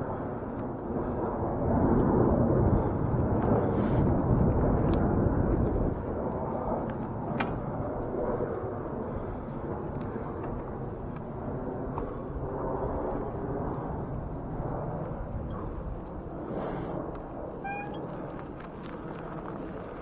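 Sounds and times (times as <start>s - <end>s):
bicycle tyres rolling on dirt: 0.0s - 20.0s.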